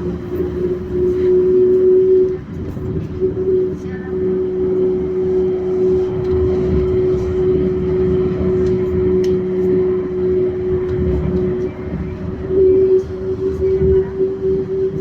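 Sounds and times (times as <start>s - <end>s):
train drive whine: 0.0s - 15.0s
train rolling rumble: 0.0s - 15.0s.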